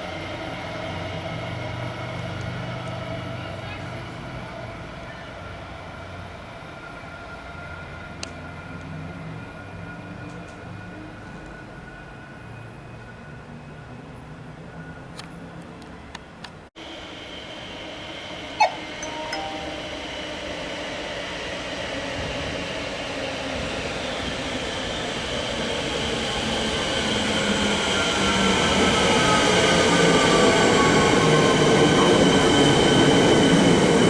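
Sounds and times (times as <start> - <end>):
electric train approaching: 0.0 - 15.0, 16.8 - 34.0.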